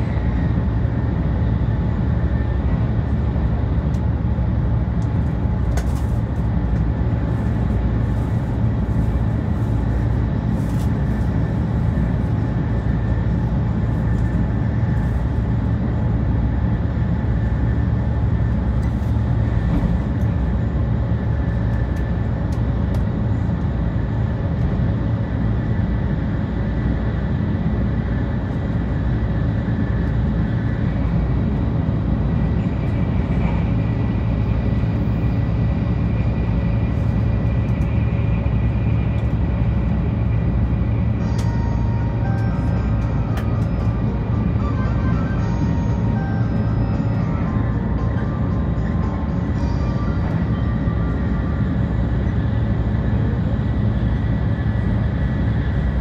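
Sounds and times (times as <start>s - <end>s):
train interior low rumble: 0.0s - 56.0s.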